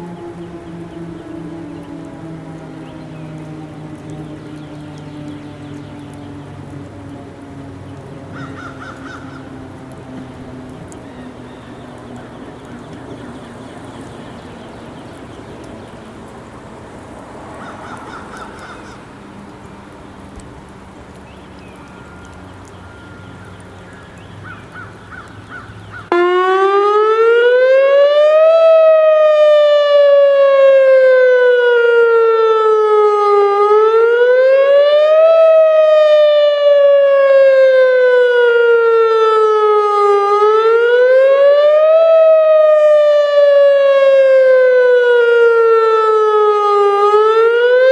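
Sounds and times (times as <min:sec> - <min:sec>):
faint outdoor background: 0:00.0 - 0:47.9
warning siren wailing: 0:00.0 - 0:47.9.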